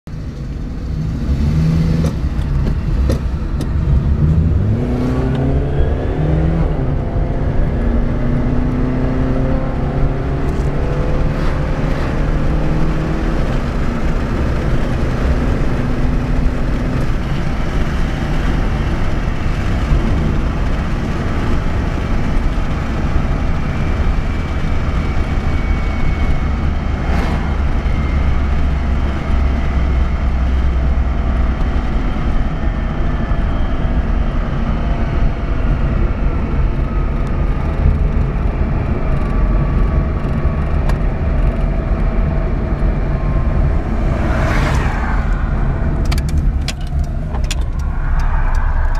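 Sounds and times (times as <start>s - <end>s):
car engine driving: 0.1s - 48.9s.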